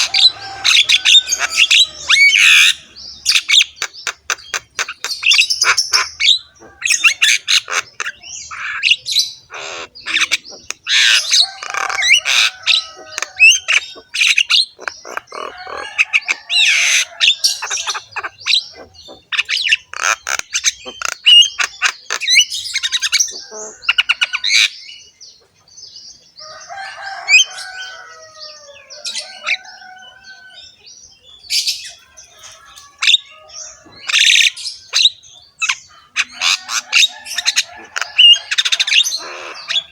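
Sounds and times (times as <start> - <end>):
myna bird chattering song: 0.0 - 39.9.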